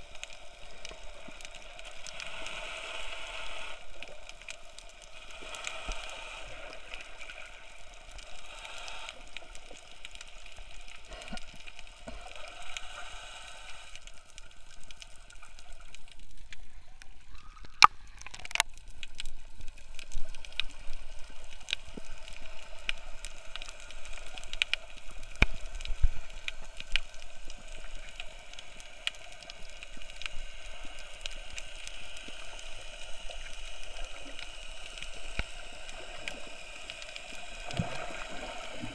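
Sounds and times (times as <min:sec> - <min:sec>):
underwater gurgling and sloshing: 0:00.0 - 0:38.9.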